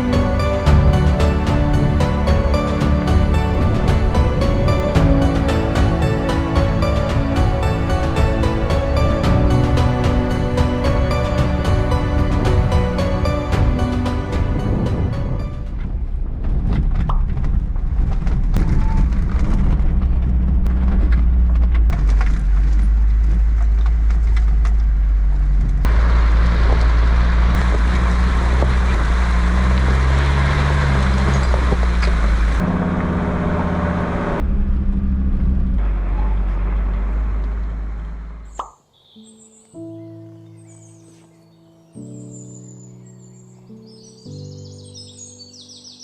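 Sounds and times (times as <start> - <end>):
diesel engine rumble: 0.0 - 38.6.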